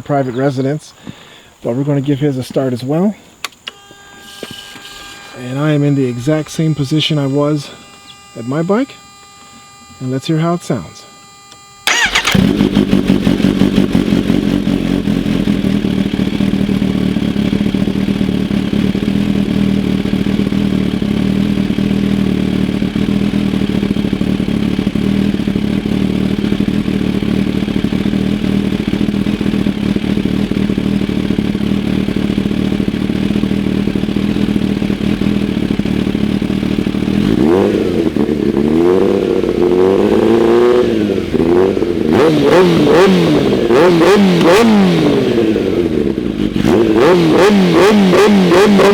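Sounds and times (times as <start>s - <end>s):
motorcycle engine idling and revving: 4.9s - 48.9s.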